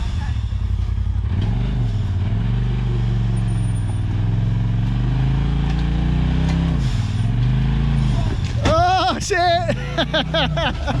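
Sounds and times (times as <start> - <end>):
utility vehicle engine revving: 0.0 - 11.0.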